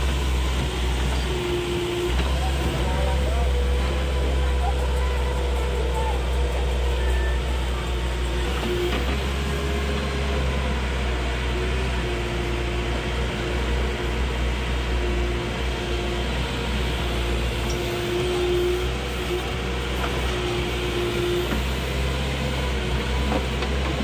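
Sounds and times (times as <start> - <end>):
diesel engine droning: 0.0 - 24.0
hydraulic whine: 0.0 - 24.0.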